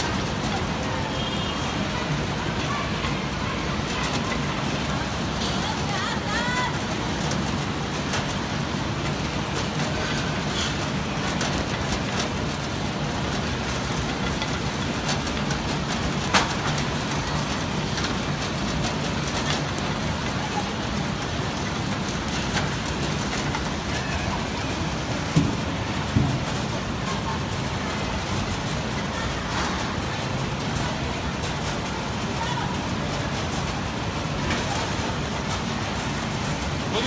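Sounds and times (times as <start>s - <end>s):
oranges rolling on conveyors: 0.0s - 37.0s.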